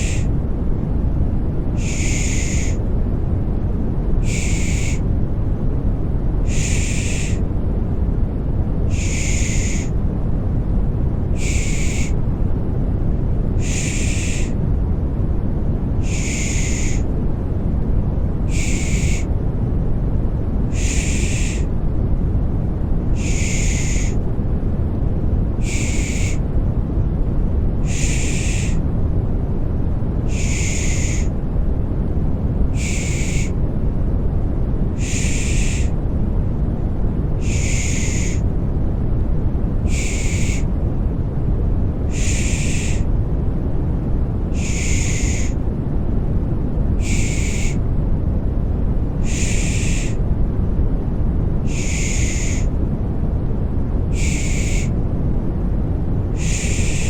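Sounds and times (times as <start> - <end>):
low rushing noise: 0.0 - 57.0.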